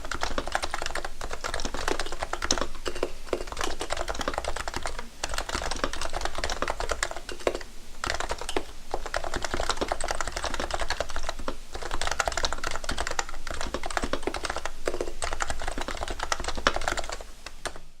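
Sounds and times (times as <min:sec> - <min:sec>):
fast keyboard typing: 0:00.0 - 0:17.8.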